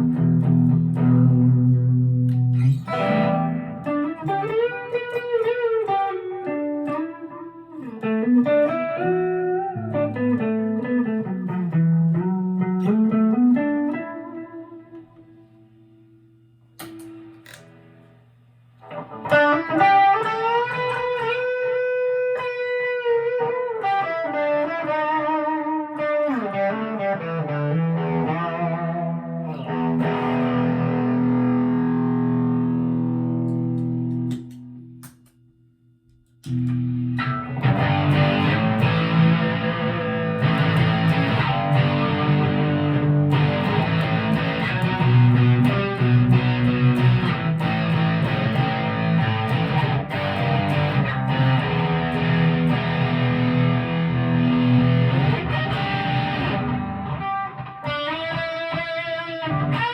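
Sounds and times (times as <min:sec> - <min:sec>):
electric guitar through an amp: 0:00.0 - 0:35.3, 0:36.2 - 0:59.9.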